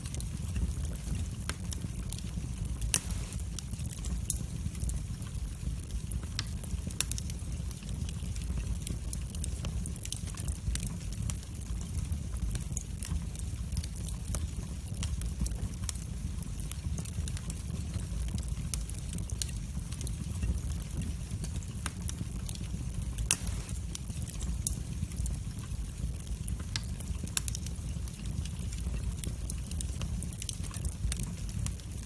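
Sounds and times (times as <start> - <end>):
fire crackling and popping: 0.0 - 32.0
flames rumbling: 0.0 - 32.0.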